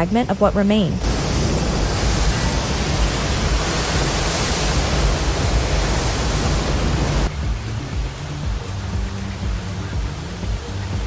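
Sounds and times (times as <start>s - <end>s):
flooded river rushing: 1.0s - 11.0s.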